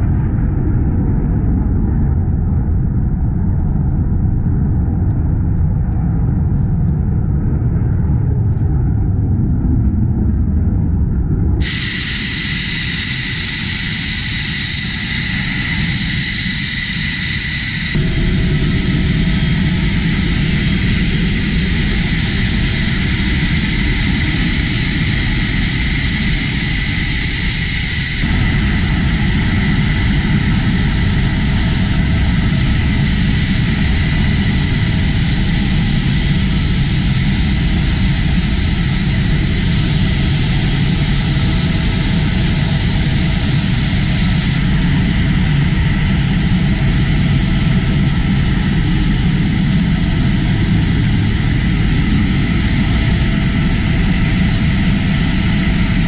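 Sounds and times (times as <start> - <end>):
jet engine roaring with whine: 0.0 - 56.0.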